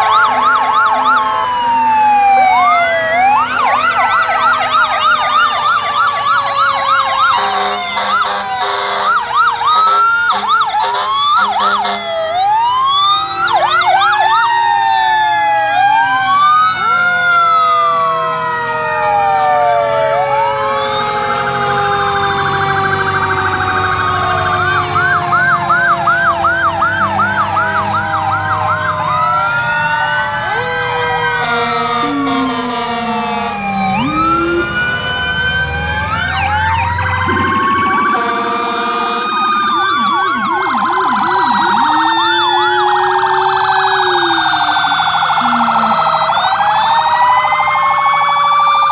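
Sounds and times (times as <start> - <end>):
fire engine sirens: 0.0 - 48.9.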